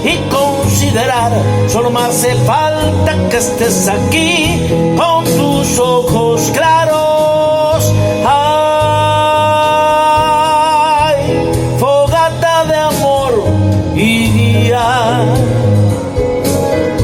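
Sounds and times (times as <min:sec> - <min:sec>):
person singing: 0:00.0 - 0:16.1
band with guitar: 0:00.0 - 0:17.0.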